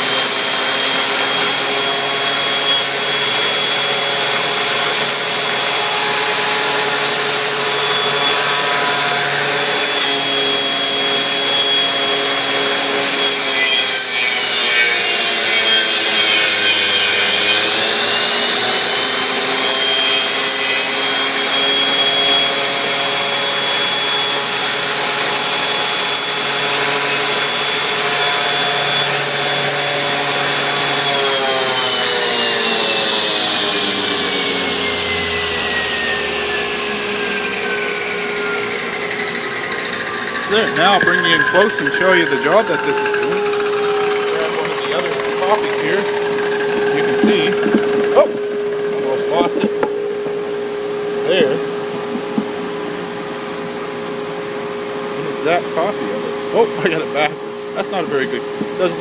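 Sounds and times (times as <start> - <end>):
saw rasping on spinning wood: 0.0 - 52.6
motor whine: 0.0 - 59.0.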